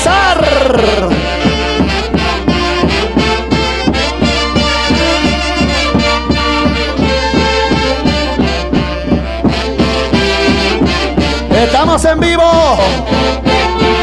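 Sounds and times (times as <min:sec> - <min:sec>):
horns playing a melody: 0:00.0 - 0:14.0
quick steady beat: 0:00.0 - 0:14.0.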